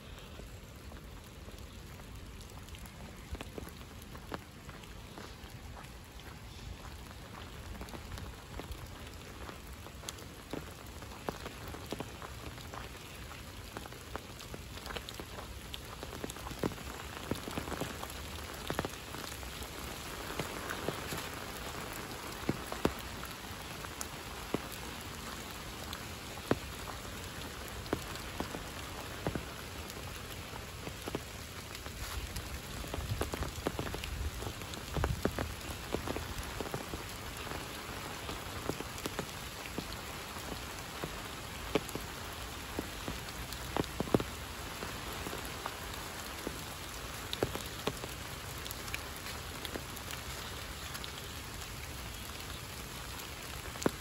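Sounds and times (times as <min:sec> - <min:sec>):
steady rain falling: 0:00.0 - 0:54.0
raindrops tapping close by: 0:00.1 - 0:54.0.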